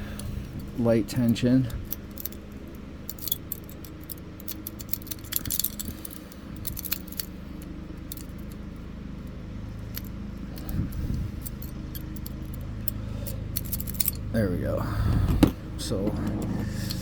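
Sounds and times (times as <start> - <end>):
lock pick clicking and scraping: 0.0 - 14.3, 16.2 - 17.0.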